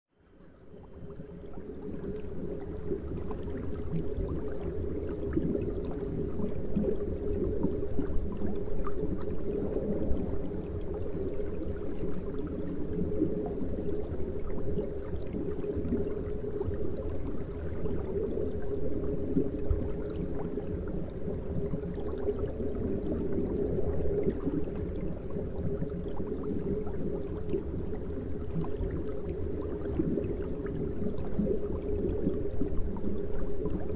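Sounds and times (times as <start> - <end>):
aquarium filter bubbling: 0.7 - 33.9.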